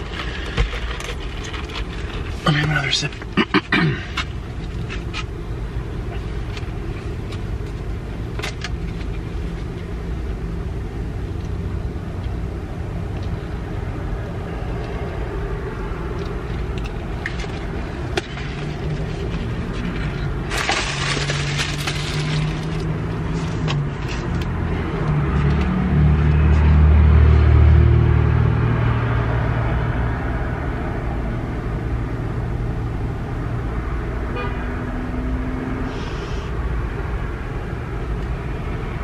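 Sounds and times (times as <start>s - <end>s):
car engine hum: 0.0s - 39.0s.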